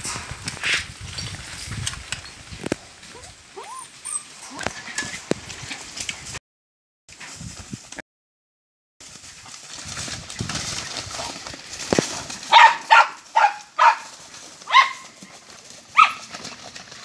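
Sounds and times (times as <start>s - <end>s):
scuffling in dry straw and leaves: 0.0s - 6.4s, 9.0s - 17.0s.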